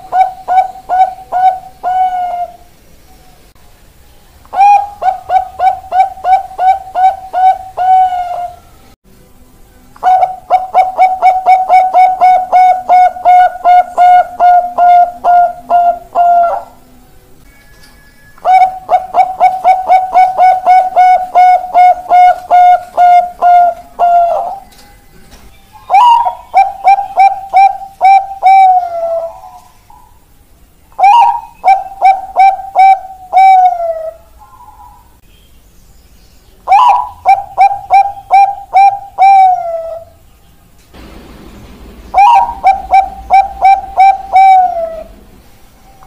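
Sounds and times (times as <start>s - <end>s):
doves cooing: 0.0s - 2.7s, 4.5s - 8.8s, 10.0s - 16.8s, 18.4s - 30.3s, 31.0s - 35.2s, 36.7s - 40.2s, 41.9s - 45.4s.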